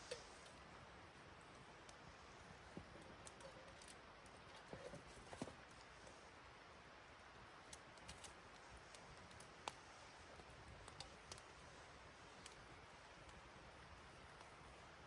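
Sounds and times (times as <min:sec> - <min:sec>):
faint clicks and crackles: 0:00.0 - 0:15.0
quiet hiss: 0:00.0 - 0:15.0.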